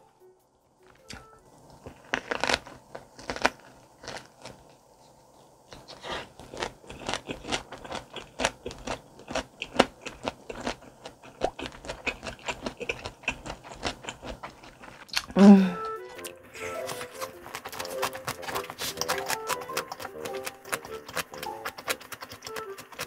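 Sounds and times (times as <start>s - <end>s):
crisp chewing and crunching: 0.8s - 23.0s.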